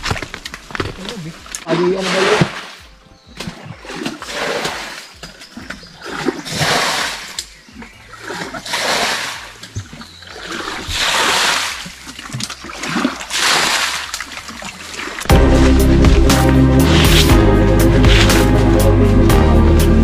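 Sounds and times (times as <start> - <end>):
water splashing by hand: 1.6 - 18.8.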